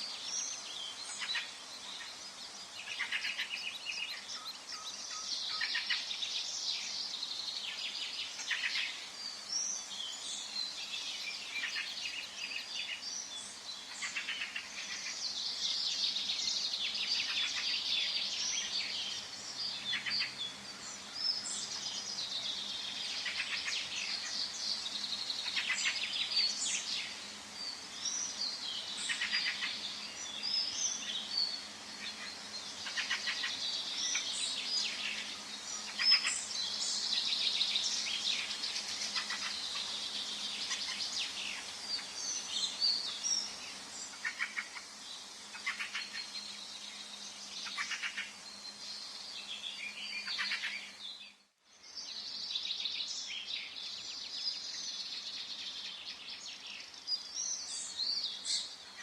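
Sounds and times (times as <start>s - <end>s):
faint background hum: 0.0s - 59.0s
songbirds singing and chirping: 0.0s - 59.0s.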